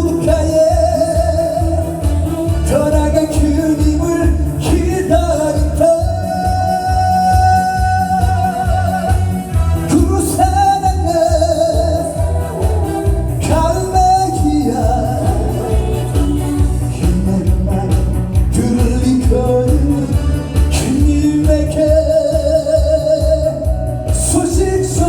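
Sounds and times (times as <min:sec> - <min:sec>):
trot song with pulsing beat: 0:00.0 - 0:25.0.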